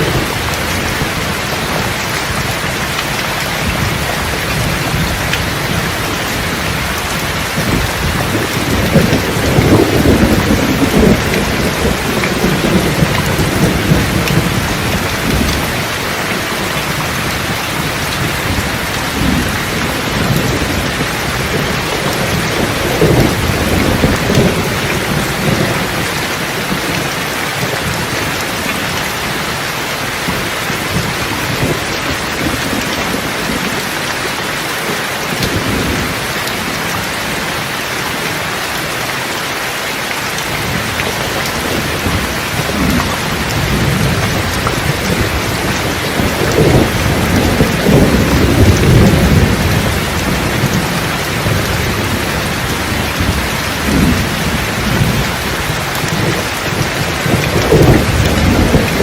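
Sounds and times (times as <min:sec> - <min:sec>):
rolling thunder: 0:00.0 - 0:34.0, 0:40.5 - 0:59.0
heavy rain: 0:00.0 - 0:59.0.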